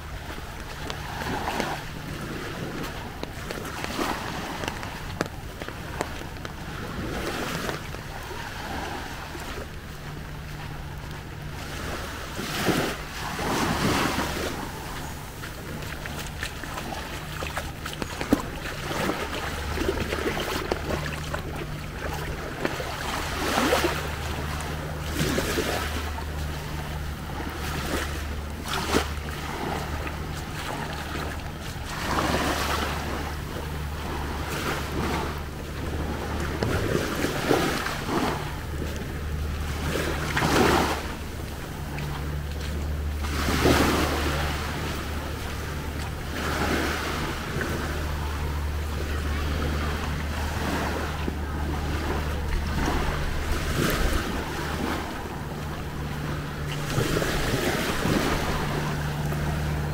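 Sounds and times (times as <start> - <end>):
sea waves washing onto beach: 0.0 - 59.9
steady low hum: 0.0 - 59.9.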